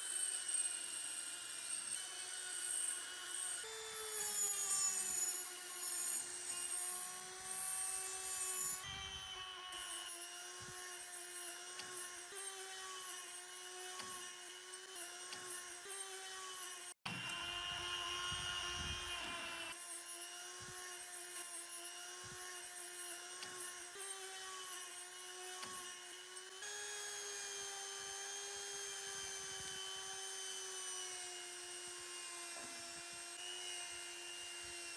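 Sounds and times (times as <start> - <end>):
electric power tool whining: 0.0 - 34.9.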